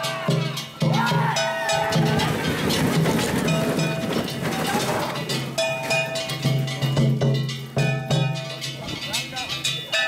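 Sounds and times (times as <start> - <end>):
ringing metal percussion: 0.0 - 10.0.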